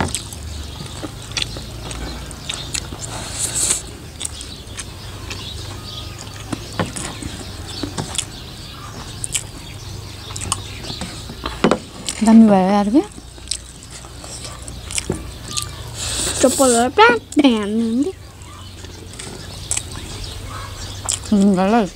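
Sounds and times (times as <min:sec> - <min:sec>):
chewing crunches: 0:00.0 - 0:12.4, 0:13.0 - 0:17.4, 0:18.6 - 0:21.6.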